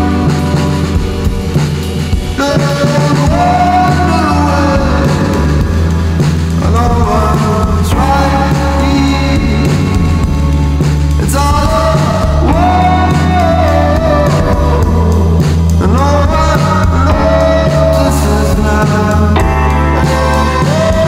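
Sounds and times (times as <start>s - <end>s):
indie rock music: 0.0s - 21.0s.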